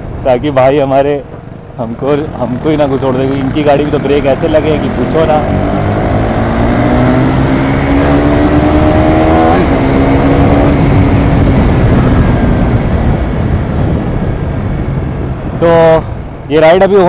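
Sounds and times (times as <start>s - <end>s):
wind rush on microphone: 0.0s - 17.0s
motorcycle engine accelerating: 1.4s - 15.5s.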